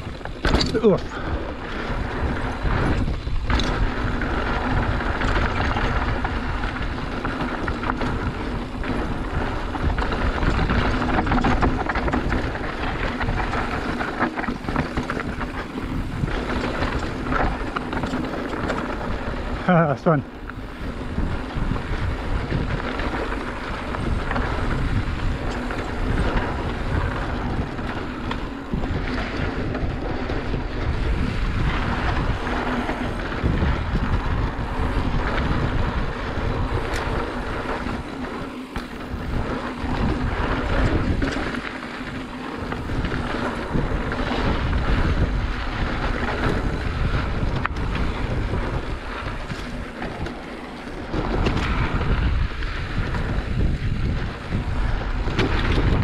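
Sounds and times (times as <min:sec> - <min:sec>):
tyres rumbling over dirt: 0:00.0 - 0:56.0
wind rushing over microphone: 0:00.0 - 0:56.0.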